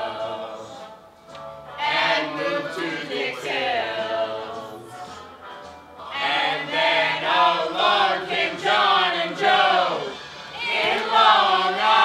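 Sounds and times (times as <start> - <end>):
group singing together: 0.0 - 1.0, 1.7 - 5.4, 6.0 - 12.0.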